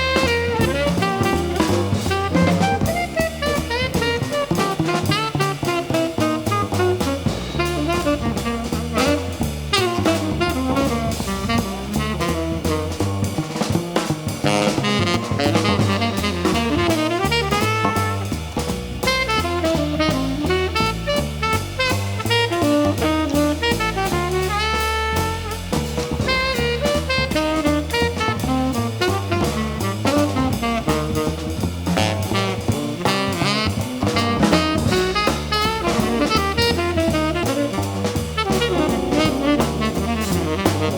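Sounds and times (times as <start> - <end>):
bass notes: 0.0 - 40.9
drum and cymbal strokes: 0.0 - 40.9
jazz band playing: 0.0 - 40.9.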